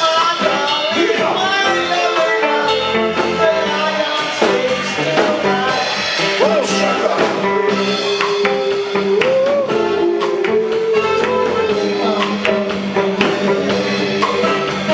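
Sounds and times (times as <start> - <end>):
drum kit: 0.0 - 14.9
electric guitar: 0.0 - 14.9.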